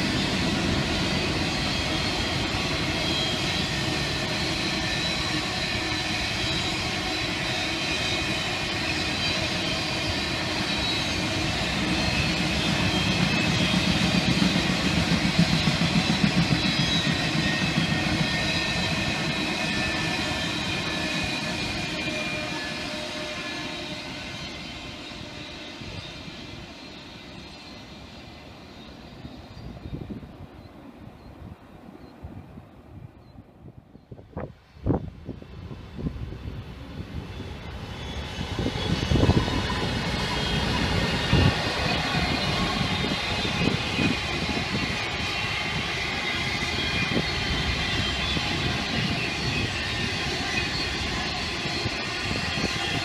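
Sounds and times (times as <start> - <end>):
freight train wheels rumbling: 0.0 - 31.2, 34.2 - 53.0.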